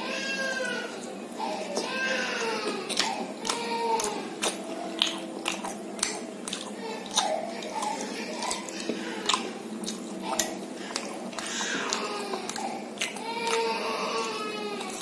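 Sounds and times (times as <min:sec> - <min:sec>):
crunchy food chewing: 0:00.8 - 0:15.0.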